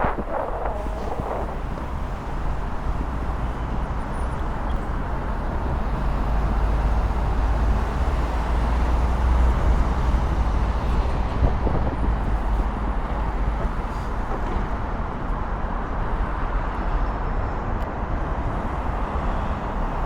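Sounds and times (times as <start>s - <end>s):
street traffic noise: 0.0s - 20.0s
wind rumble on microphone: 0.0s - 20.0s.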